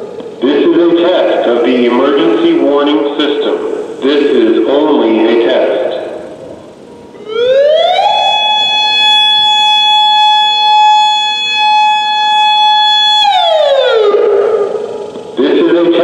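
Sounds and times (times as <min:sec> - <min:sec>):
electronic warning siren: 0:00.0 - 0:16.0.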